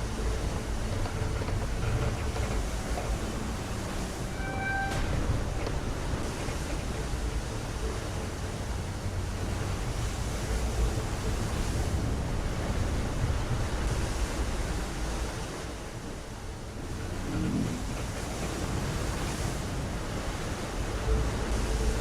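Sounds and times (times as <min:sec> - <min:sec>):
sea water rushing: 0:00.0 - 0:22.0.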